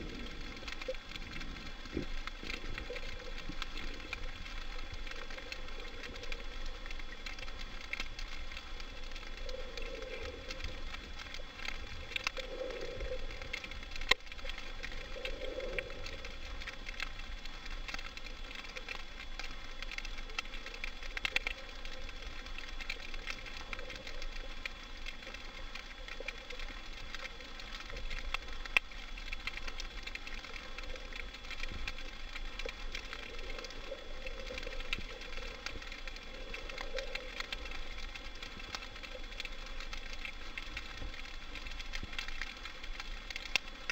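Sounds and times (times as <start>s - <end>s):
faint underwater crackling: 0.0s - 43.9s.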